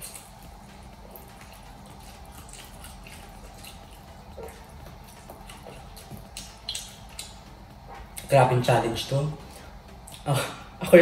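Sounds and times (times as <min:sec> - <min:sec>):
chewing with wet mouth clicks: 0:00.0 - 0:08.3, 0:09.5 - 0:10.3.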